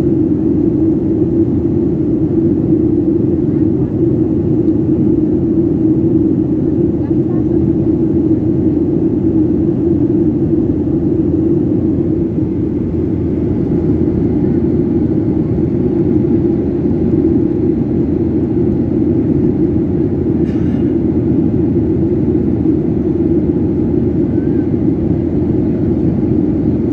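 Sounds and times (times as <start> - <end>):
airliner cabin engine drone: 0.0 - 26.9.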